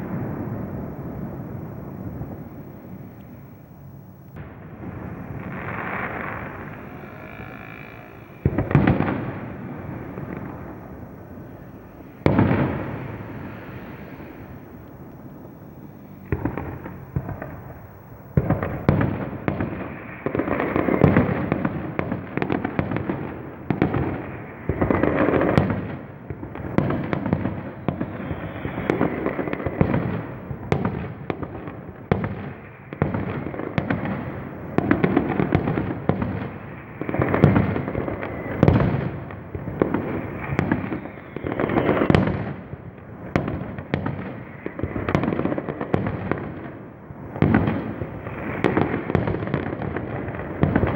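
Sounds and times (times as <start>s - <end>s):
fireworks booming rumbles: 0.0s - 50.9s
fireworks cracking and popping: 0.0s - 50.9s.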